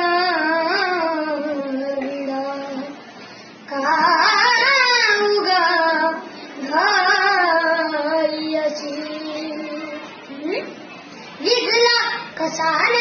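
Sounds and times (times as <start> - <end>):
boy singing: 0.0 - 3.0, 3.7 - 10.3, 11.4 - 13.0.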